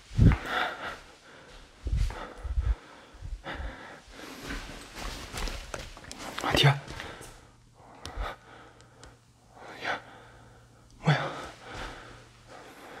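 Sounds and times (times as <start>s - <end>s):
person breathing: 0.0s - 5.2s, 6.9s - 13.0s
faint low hum: 0.0s - 13.0s.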